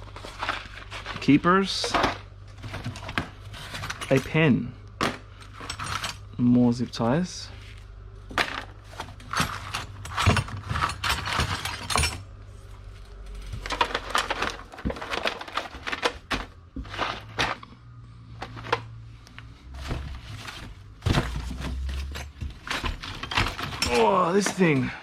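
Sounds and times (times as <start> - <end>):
metal tools clinking and rattling: 0.1 - 6.8, 8.3 - 17.6, 19.8 - 25.0.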